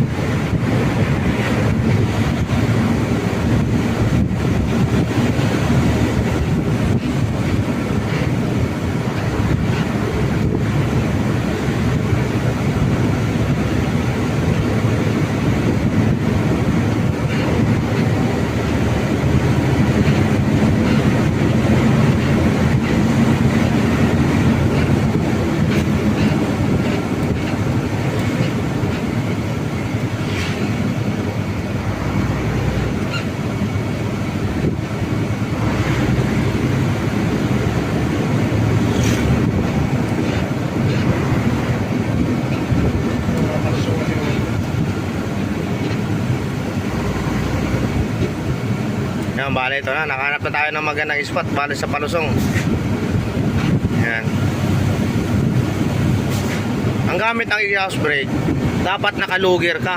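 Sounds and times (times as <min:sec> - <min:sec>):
road noise: 0:00.0 - 0:59.9
truck diesel engine running: 0:00.0 - 0:59.9
wind noise: 0:00.0 - 0:59.9.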